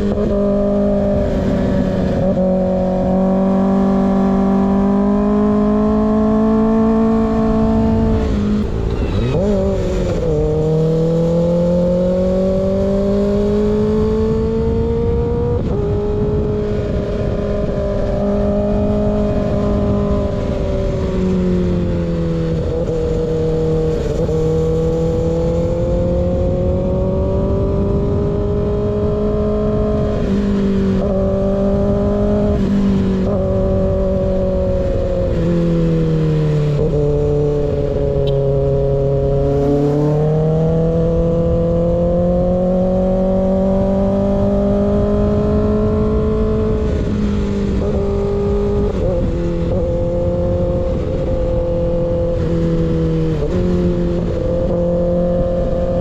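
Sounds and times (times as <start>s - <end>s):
motorcycle engine at road speed: 0.0s - 56.0s.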